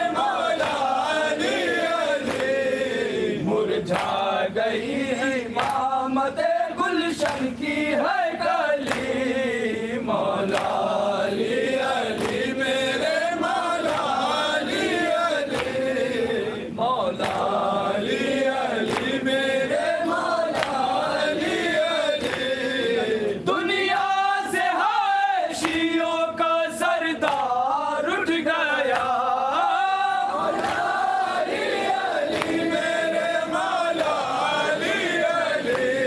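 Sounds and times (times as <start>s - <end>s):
men chanting a lament: 0.0s - 36.0s.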